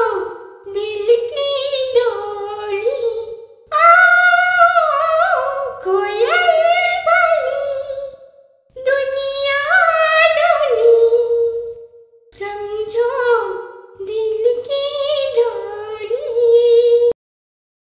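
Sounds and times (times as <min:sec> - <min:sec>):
woman singing unaccompanied: 0:00.0 - 0:08.2, 0:08.8 - 0:11.8, 0:12.4 - 0:17.1.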